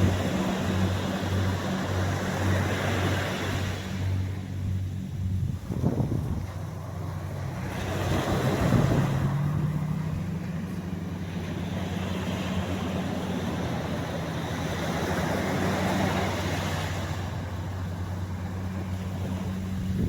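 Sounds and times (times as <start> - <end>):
small waves washing on sand: 0.0 - 20.0.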